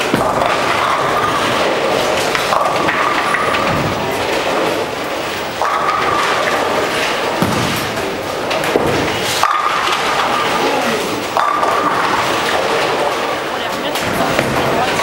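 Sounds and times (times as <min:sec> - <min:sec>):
bowling balls rolling: 0:00.0 - 0:15.0
bowling pins falling: 0:00.0 - 0:15.0.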